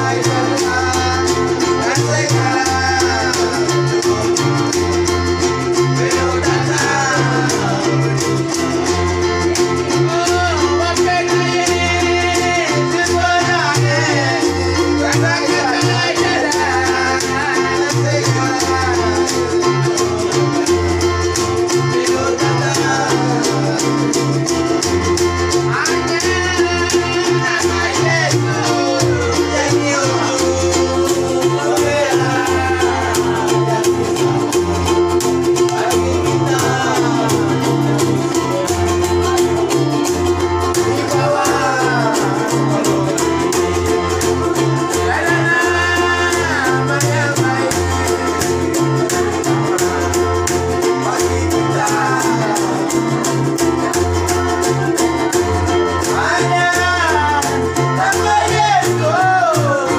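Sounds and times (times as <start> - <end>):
men singing: 0.0 - 59.9
plucked upright bass: 0.0 - 59.9
ukuleles strumming: 0.0 - 59.9.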